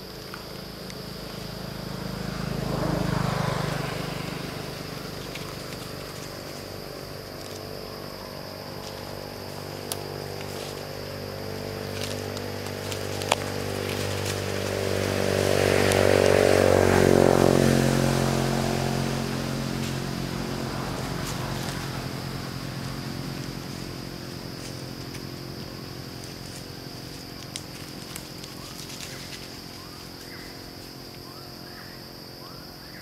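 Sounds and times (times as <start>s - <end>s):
vehicle engine passing: 0.6s - 31.9s.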